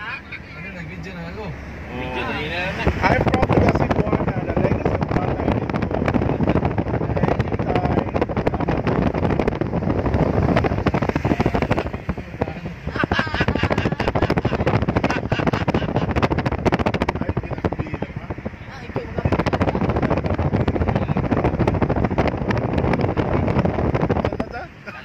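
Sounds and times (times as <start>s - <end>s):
wind buffeting microphone: 0.0s - 24.9s
car rumble on road: 0.0s - 25.0s.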